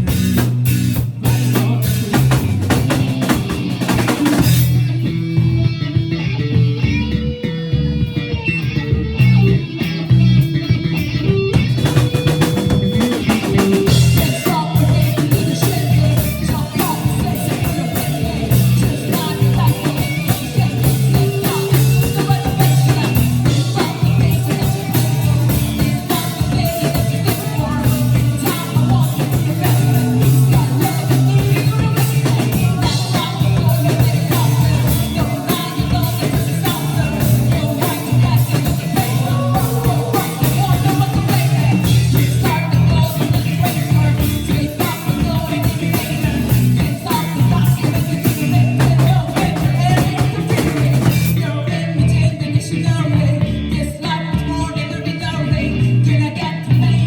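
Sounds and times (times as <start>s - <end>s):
person singing: 0.0s - 5.2s, 11.6s - 57.0s
drum kit: 0.0s - 52.2s
bass guitar: 0.0s - 57.0s
electric guitar: 0.0s - 57.0s.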